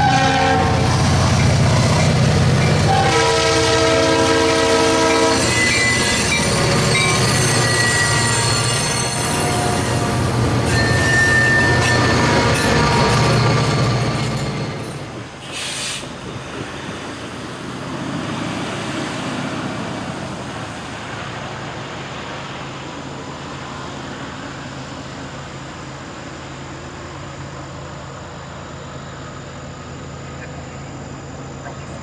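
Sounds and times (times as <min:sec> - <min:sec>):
distant diesel locomotives rumbling: 0:00.0 - 0:32.0
passing train: 0:00.0 - 0:32.0.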